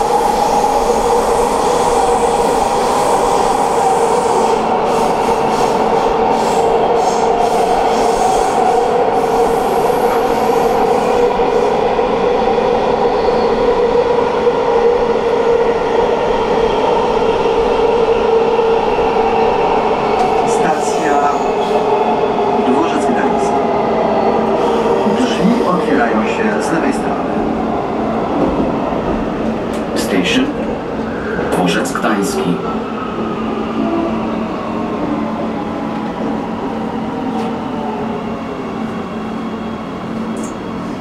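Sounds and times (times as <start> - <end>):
metro train rumble: 0.0 - 41.0.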